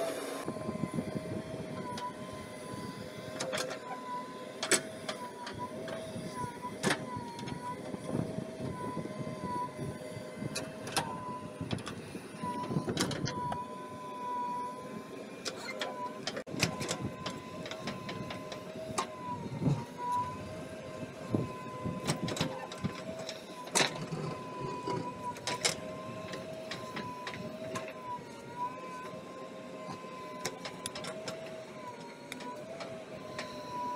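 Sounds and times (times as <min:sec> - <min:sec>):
backhoe engine and hydraulics whine: 0:00.0 - 0:33.9.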